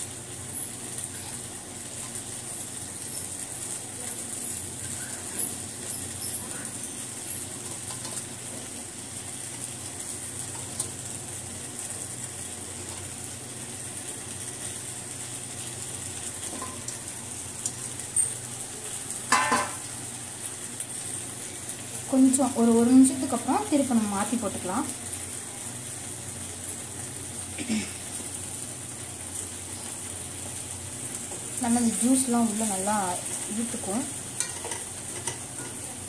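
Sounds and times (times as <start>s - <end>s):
gravy sizzling in a pan: 0.0s - 36.0s.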